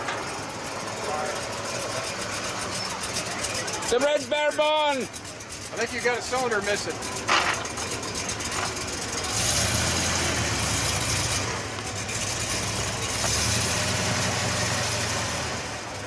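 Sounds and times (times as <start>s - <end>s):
rough car engine running: 0.0s - 16.0s.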